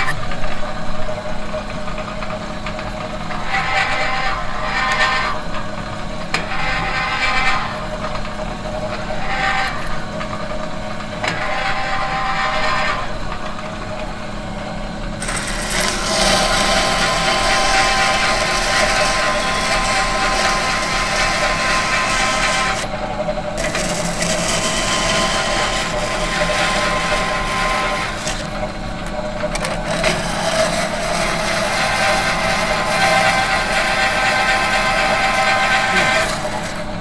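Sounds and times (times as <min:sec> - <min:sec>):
machine humming and whirring: 0:00.0 - 0:37.0.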